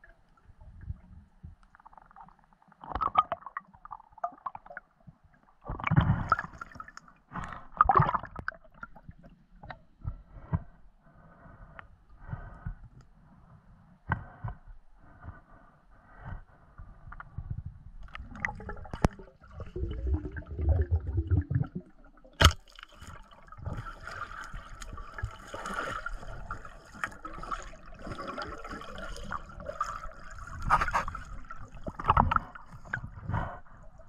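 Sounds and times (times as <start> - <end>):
underwater bubbling and gurgling: 0.0 - 34.0.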